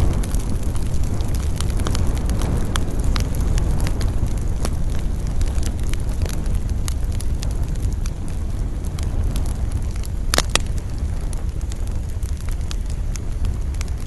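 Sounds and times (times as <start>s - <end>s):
burning wood crackling and popping: 0.0s - 14.0s
low rumble of wind: 0.0s - 14.0s.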